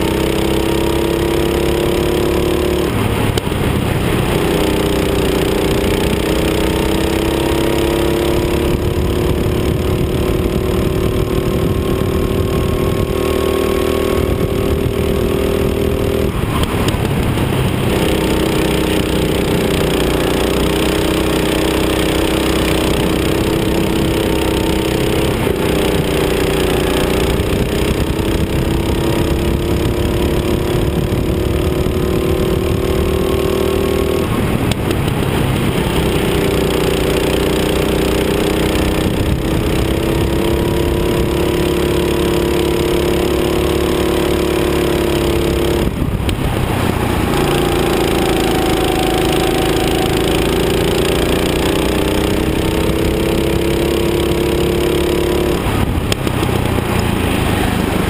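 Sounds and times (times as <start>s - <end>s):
kart engine running hard: 0.0s - 58.0s
wind and road noise: 0.0s - 58.0s.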